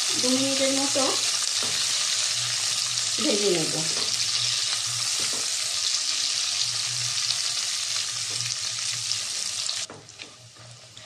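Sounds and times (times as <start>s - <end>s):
nuts frying with high sizzle: 0.0s - 11.0s.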